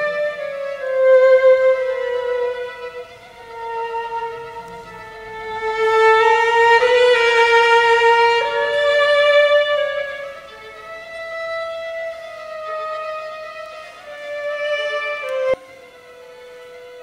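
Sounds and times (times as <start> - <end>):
violins playing slow duet: 0.0 - 17.0.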